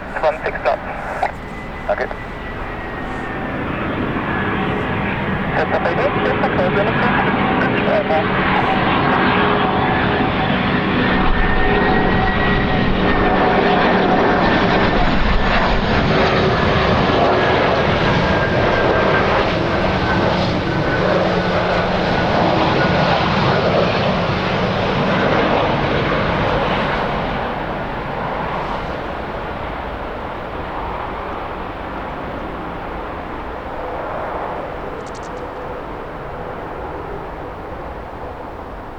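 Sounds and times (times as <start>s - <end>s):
jet airliner engines roaring: 0.0s - 38.9s.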